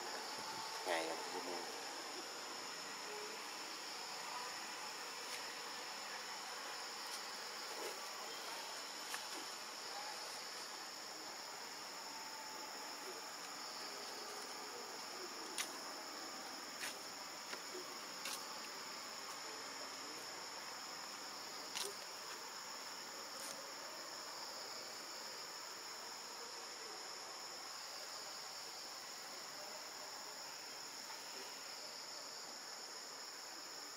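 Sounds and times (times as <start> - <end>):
insect chorus droning: 0.0 - 33.9.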